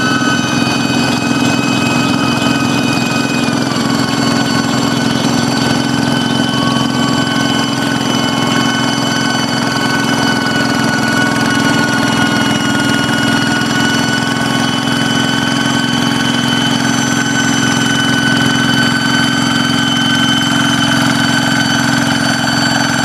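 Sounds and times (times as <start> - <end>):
diesel engine running: 0.0 - 23.0
high steady whistle: 0.0 - 23.0.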